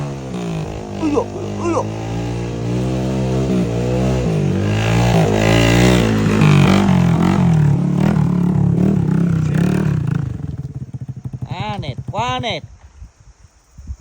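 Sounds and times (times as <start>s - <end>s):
vehicle engine revving: 0.0s - 12.8s.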